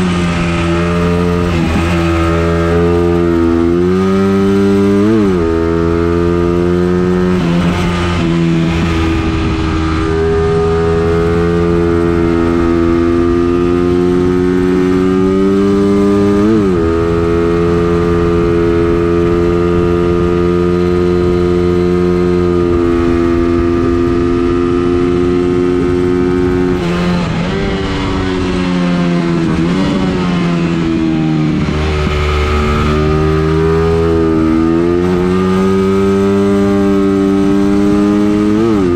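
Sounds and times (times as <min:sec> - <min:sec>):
race car engine under load: 0:00.0 - 0:21.8, 0:25.1 - 0:38.9.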